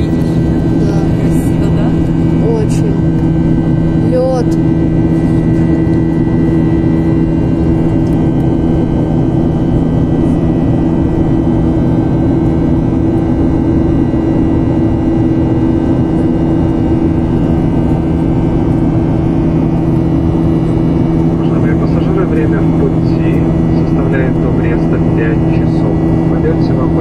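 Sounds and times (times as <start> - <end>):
airliner cabin noise: 0.0 - 27.0
steady low hum: 0.0 - 27.0.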